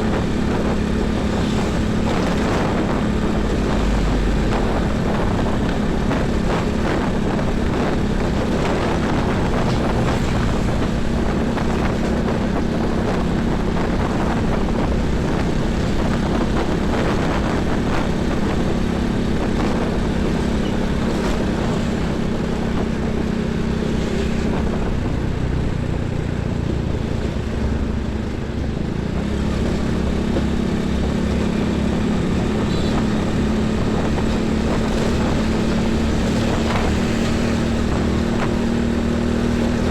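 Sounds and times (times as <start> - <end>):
truck and bus engines droning: 0.0 - 39.9
tyre and road noise: 0.0 - 39.9
wind buffeting microphone: 0.0 - 39.9.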